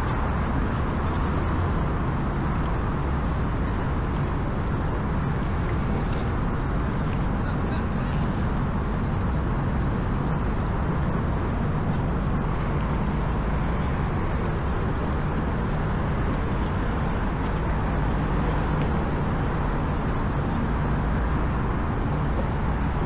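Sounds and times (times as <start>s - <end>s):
road traffic hum: 0.0s - 23.0s.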